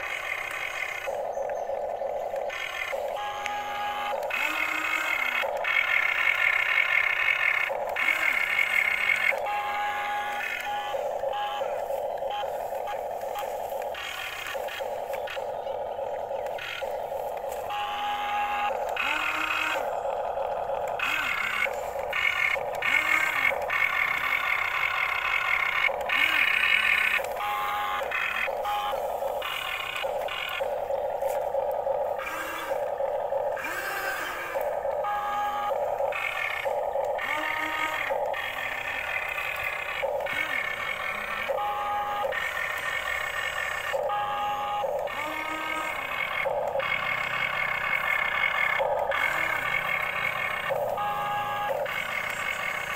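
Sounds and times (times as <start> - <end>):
electric toy motors whirring: 0.0 - 52.9.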